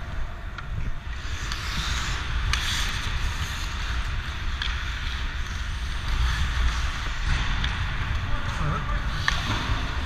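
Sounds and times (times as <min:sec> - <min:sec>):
skates scraping on ice: 0:00.0 - 0:10.0.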